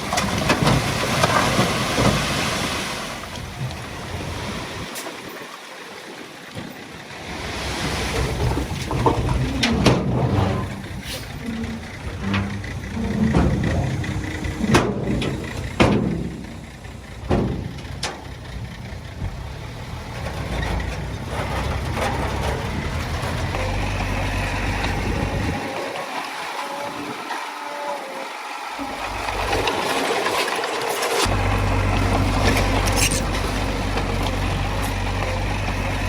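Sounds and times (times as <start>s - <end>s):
diesel machinery running: 7.1s - 36.0s.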